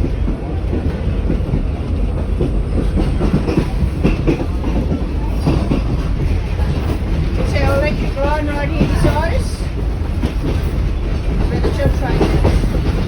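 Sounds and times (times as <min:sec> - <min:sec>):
train carriage rumbling: 0:00.0 - 0:13.0
wheels knocking on rails: 0:00.0 - 0:13.0.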